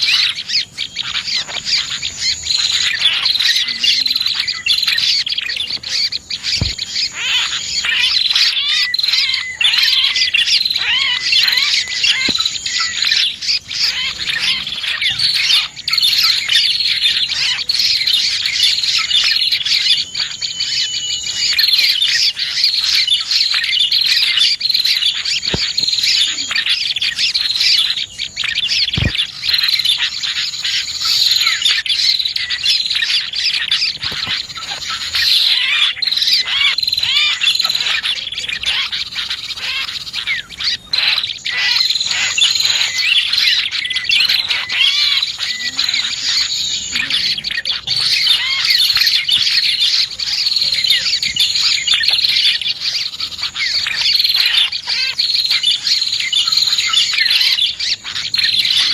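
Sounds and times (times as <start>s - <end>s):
small birds chirping and trilling: 0.0s - 58.9s.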